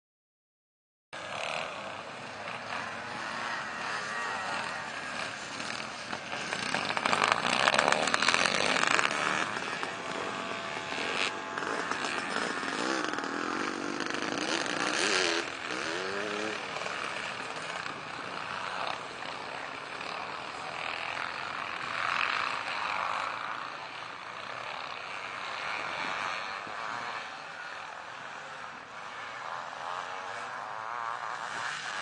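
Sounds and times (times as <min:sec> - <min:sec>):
motocross bikes revving: 0:01.2 - 0:32.0.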